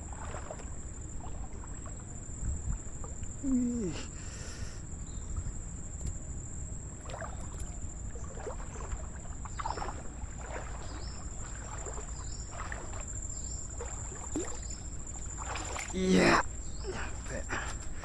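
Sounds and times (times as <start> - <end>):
water sloshing with wading strides: 0.0 - 18.0.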